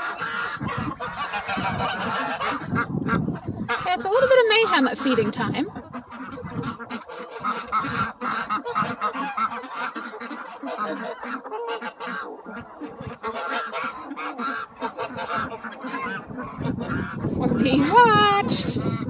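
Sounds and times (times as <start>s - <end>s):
bills pecking at ground: 0.0s - 19.0s
ducks quacking: 0.0s - 19.0s
geese honking: 0.0s - 19.0s.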